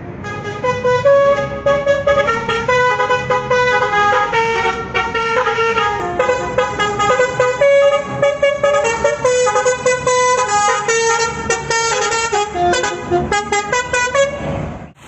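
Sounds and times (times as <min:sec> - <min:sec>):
bus horn playing a tune: 0:00.2 - 0:14.6.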